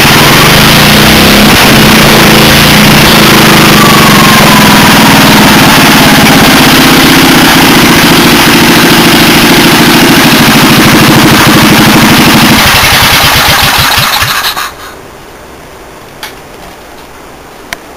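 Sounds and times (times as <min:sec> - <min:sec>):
small engine running and shutting off: 0:00.0 - 0:14.8.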